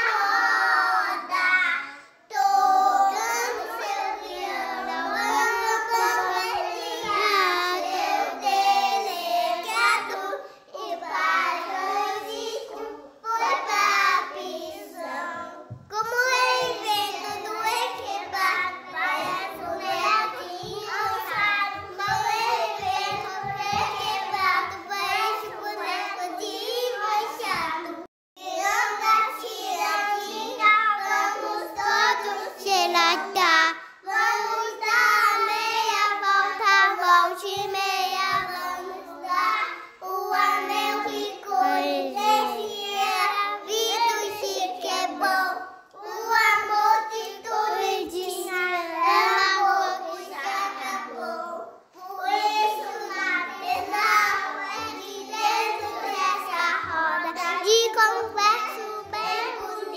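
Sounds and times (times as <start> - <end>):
children singing in unison: 0.0 - 59.9.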